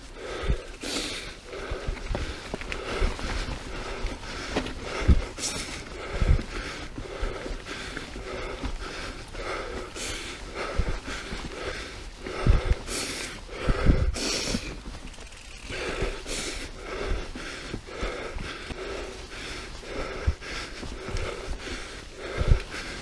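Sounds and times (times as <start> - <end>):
bike rattling on dirt trail: 0.0 - 23.0
person breathing hard: 0.0 - 23.0.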